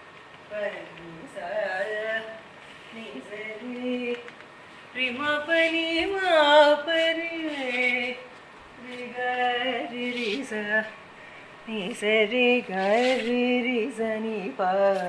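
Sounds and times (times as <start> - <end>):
person singing unaccompanied: 0.5 - 11.0, 11.7 - 15.0.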